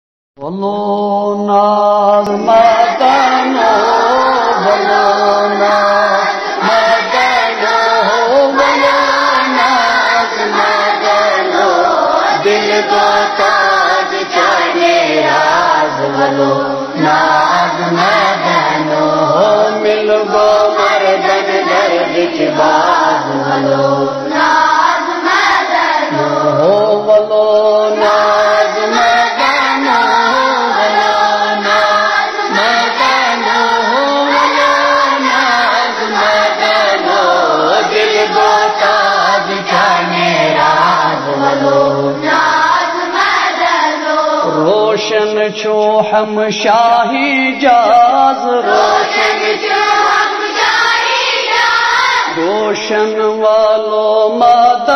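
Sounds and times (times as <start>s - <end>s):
children singing in unison: 2.1s - 45.2s, 47.7s - 53.8s.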